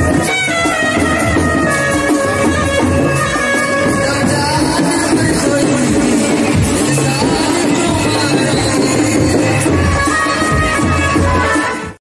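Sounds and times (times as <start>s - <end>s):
loud music: 0.0s - 12.0s.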